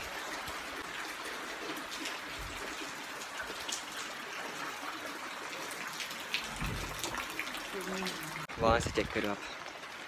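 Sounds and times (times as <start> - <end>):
light rain falling: 0.0 - 10.0.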